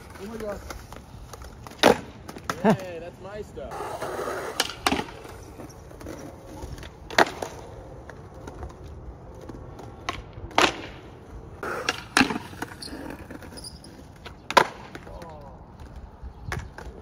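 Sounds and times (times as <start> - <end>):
skateboard clacking: 0.0 - 17.0
skateboard wheels rolling on concrete: 0.0 - 17.0.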